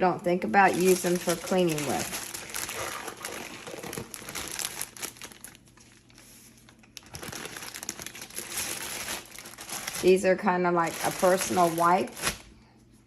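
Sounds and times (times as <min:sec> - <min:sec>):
plastic packaging crinkling: 0:00.5 - 0:12.6.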